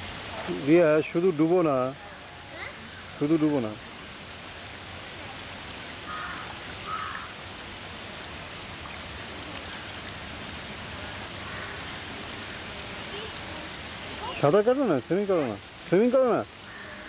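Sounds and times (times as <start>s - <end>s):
water rushing in pool: 0.0s - 17.0s.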